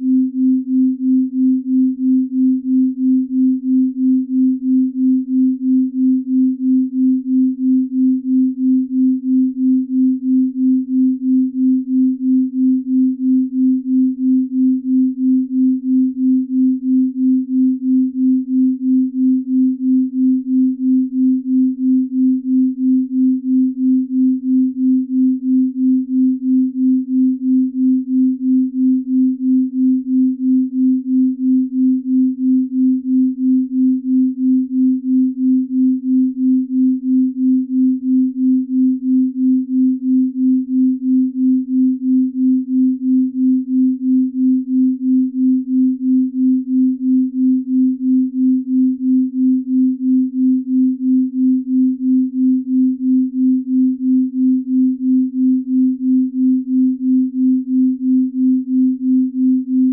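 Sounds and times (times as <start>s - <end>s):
low pulsing pure tone: 0.0s - 59.9s.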